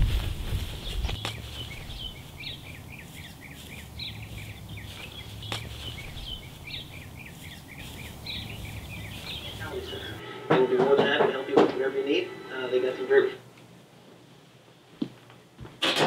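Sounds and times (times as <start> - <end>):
birds chirping: 0.5 - 13.4.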